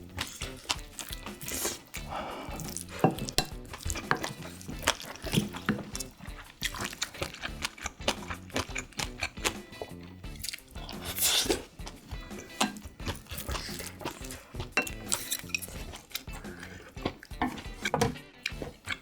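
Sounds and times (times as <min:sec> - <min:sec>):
background music: 0:00.0 - 0:19.0
stirring liquid: 0:00.0 - 0:19.0
utensils clinking against dishes: 0:00.2 - 0:19.0.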